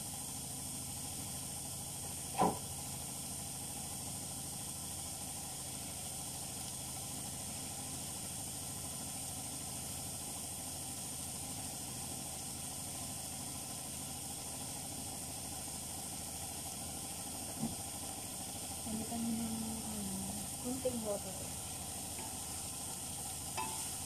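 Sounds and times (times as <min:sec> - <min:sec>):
pots cooking on gas stove: 0:00.0 - 0:24.0.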